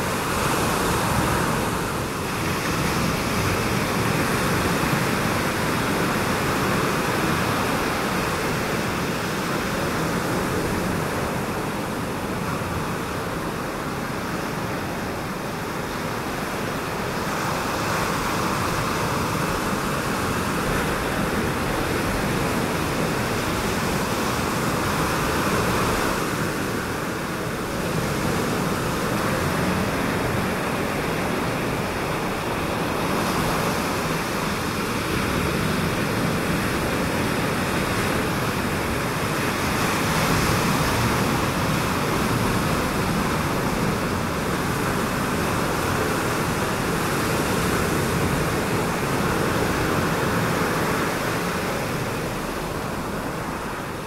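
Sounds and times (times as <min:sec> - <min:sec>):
waves breaking on a reef: 0:00.0 - 0:54.0.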